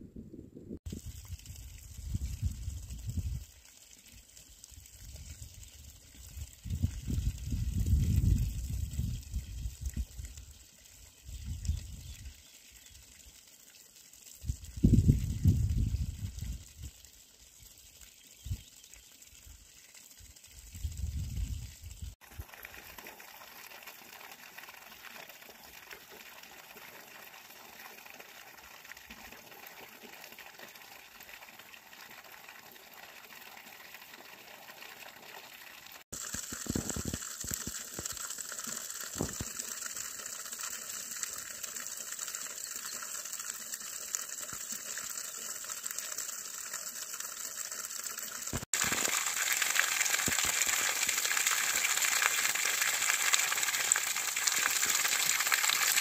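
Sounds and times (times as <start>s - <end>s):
water pouring onto rock: 0.9s - 56.0s.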